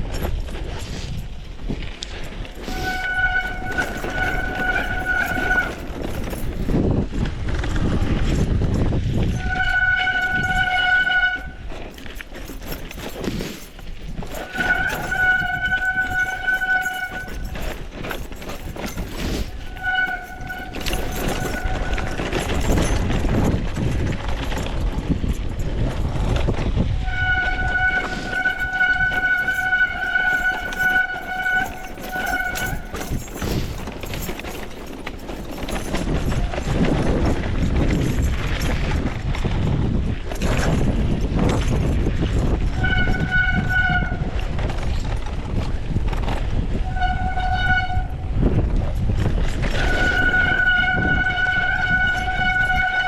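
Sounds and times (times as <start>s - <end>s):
brakes squealing: 0.0s - 39.0s, 42.3s - 45.2s, 49.0s - 53.0s
bike rattling on rough trail: 0.0s - 53.0s.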